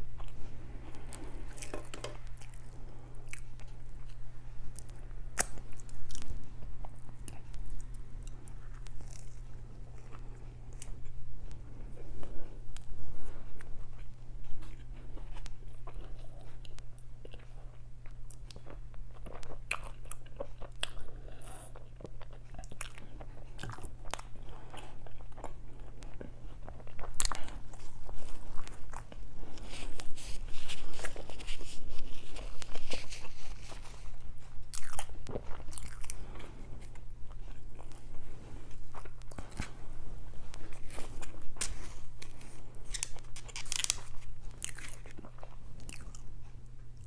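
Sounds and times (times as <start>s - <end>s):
crunchy chewing: 0.2s - 47.0s.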